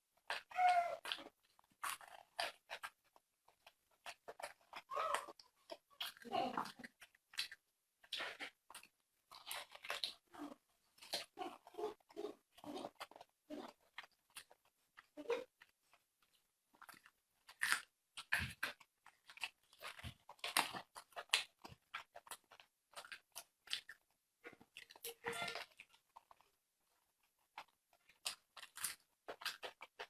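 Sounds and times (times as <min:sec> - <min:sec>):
person chewing wet crunches: 0:00.1 - 0:30.0.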